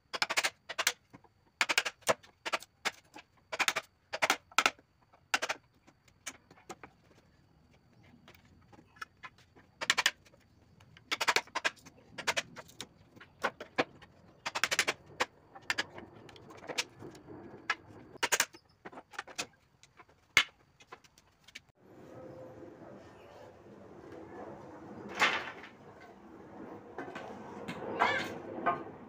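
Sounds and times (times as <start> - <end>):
steady background noise: 0.2 - 29.0.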